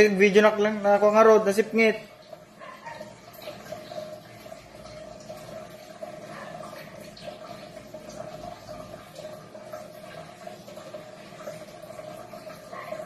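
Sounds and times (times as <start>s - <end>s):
aquarium pump humming: 0.0s - 13.0s
water bubbling and splashing: 0.0s - 13.0s.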